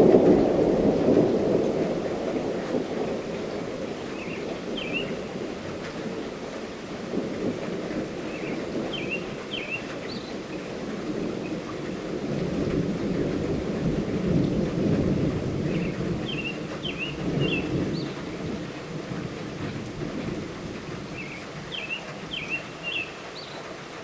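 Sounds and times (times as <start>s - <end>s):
thunder rumbling: 0.0s - 23.4s
light rainfall: 0.0s - 24.0s.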